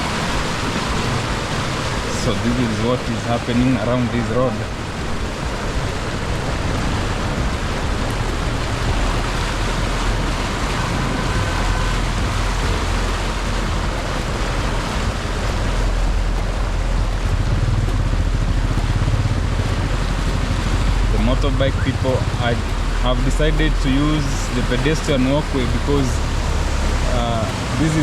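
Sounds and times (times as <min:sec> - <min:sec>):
floodwater rushing: 0:00.0 - 0:28.0
rain: 0:00.0 - 0:28.0
vehicles rumbling on flooded road: 0:00.0 - 0:28.0.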